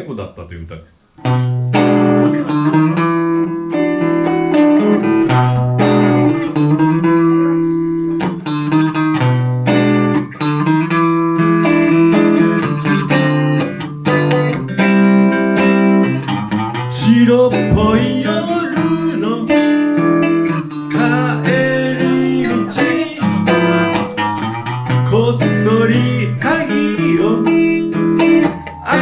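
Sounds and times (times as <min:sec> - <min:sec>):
electric guitar picking chords: 0:01.2 - 0:29.0.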